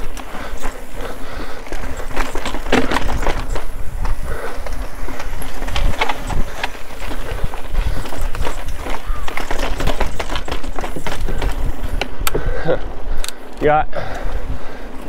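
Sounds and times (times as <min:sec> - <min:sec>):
bike knocking and rattling: 0:00.0 - 0:15.0
bike tyre rumble: 0:00.0 - 0:15.0
wind rumble on microphone: 0:00.0 - 0:15.0.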